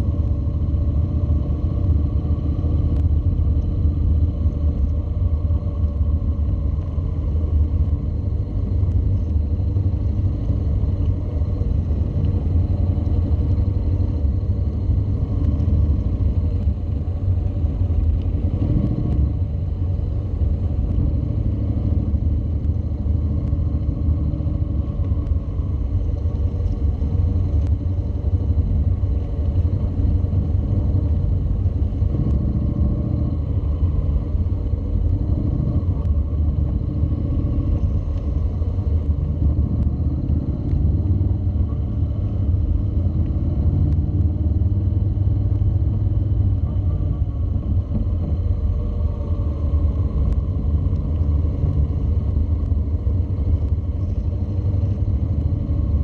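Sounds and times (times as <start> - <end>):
motorcycle engine low rumble: 0.0 - 56.0.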